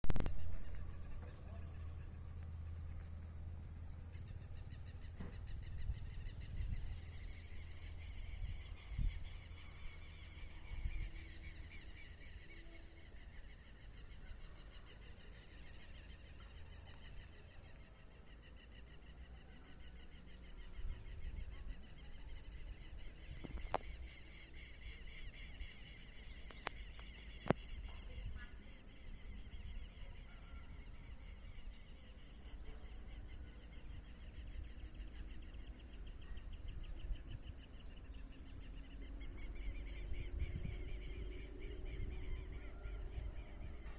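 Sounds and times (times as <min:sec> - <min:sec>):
birds calling: 0:00.1 - 0:43.9
insects trilling: 0:00.1 - 0:43.9.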